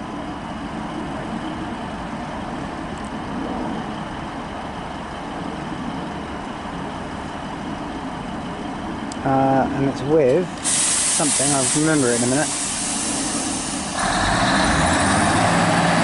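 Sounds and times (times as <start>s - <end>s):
diesel train engine droning: 0.0s - 16.0s.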